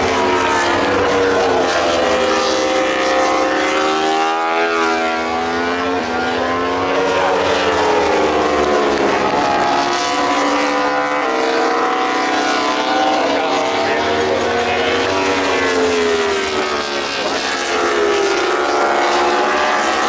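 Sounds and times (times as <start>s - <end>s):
racing motorcycle engines howling: 0.0s - 20.0s.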